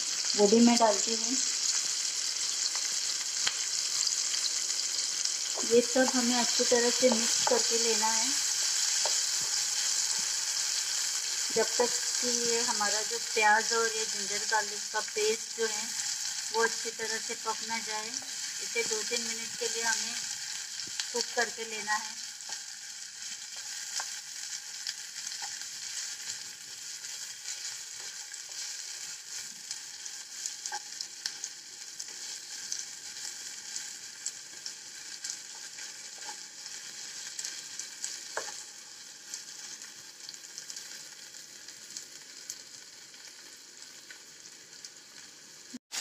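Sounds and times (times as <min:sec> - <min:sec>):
onions sizzling in hot oil: 0:00.0 - 0:46.0.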